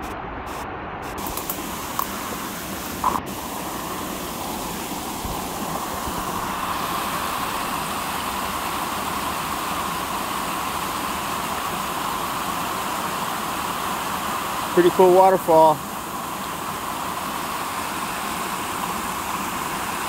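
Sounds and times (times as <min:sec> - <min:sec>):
water rushing down a creek: 0:01.2 - 0:20.0.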